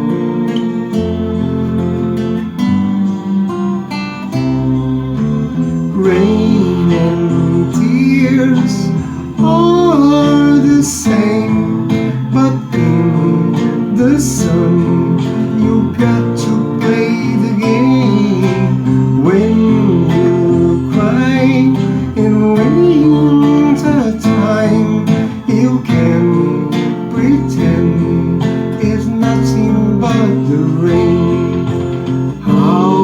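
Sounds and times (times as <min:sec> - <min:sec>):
acoustic guitar slow ballad: 0:00.0 - 0:33.0
wavering melody line: 0:00.0 - 0:33.0.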